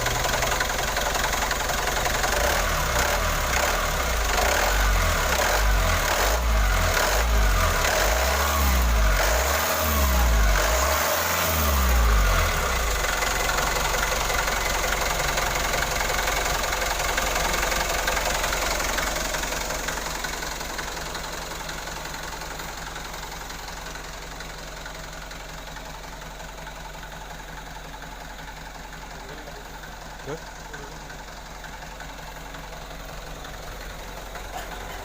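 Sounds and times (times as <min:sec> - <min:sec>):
engine revving and idling: 0:00.0 - 0:35.0.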